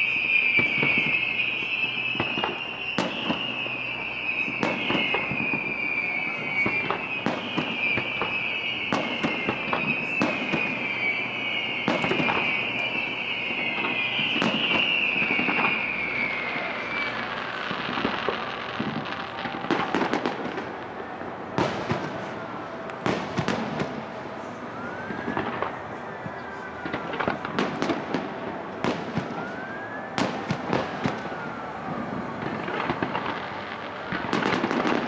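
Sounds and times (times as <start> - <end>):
high whistling sliding down: 0.0 - 35.0.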